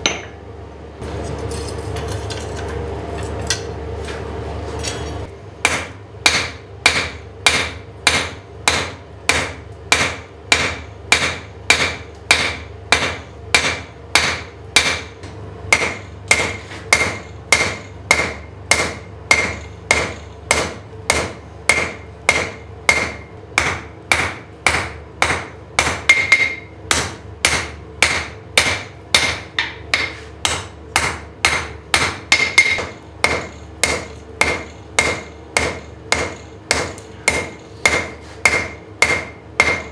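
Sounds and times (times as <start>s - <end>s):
hammer striking hot steel: 0.0s - 0.4s, 5.6s - 39.9s
steady hum: 0.0s - 39.9s.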